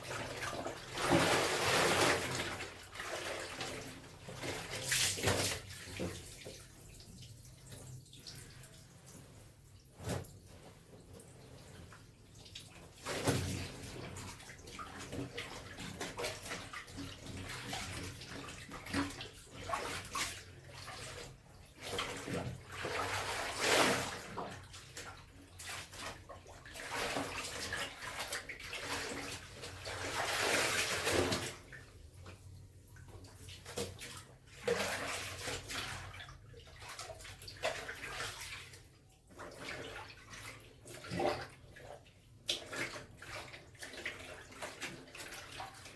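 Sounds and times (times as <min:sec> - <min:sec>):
water sloshing from hand washing: 0:00.0 - 0:45.9.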